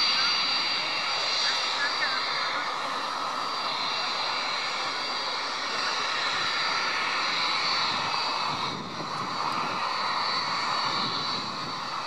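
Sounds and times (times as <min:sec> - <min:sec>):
jet engines hissing and whining: 0:00.0 - 0:12.0.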